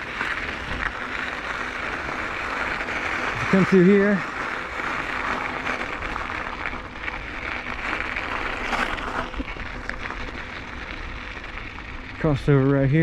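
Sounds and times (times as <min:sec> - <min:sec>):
bike tyres rolling on gravel: 0:00.0 - 0:13.0.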